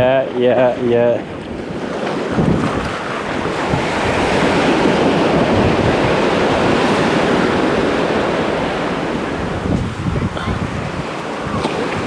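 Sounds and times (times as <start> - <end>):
sea surf washing ashore: 0.0 - 12.0
wind on microphone: 0.0 - 12.0.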